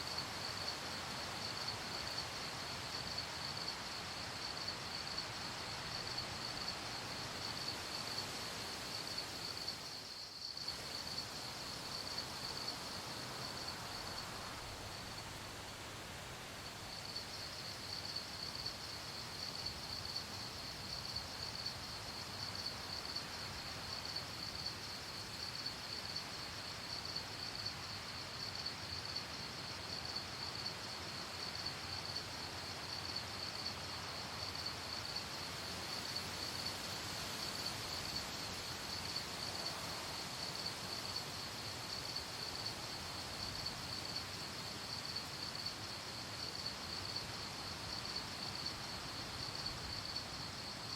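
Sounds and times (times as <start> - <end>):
crickets chirping: 0.0 - 50.9
faint background hiss: 0.0 - 50.9.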